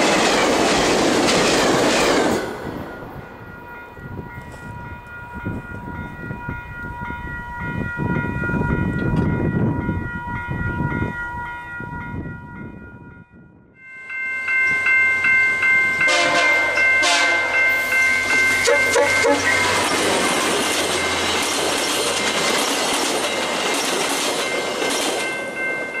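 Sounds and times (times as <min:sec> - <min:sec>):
passenger train passing roar: 0:00.0 - 0:26.0
steady high ringing tones: 0:02.7 - 0:26.0.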